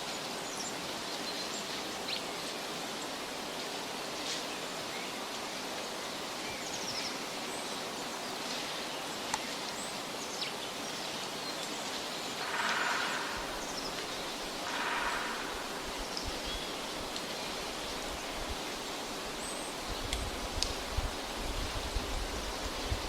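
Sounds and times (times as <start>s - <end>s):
steady rushing hiss: 0.0s - 23.0s.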